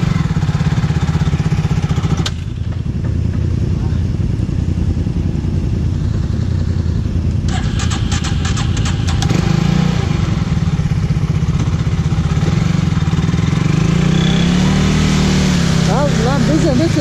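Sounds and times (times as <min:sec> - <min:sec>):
quad engine idling: 0:00.0 - 0:17.0.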